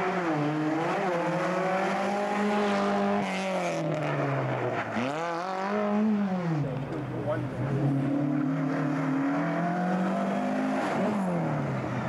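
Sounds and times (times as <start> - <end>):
rally car engine passing: 0.0 - 12.0.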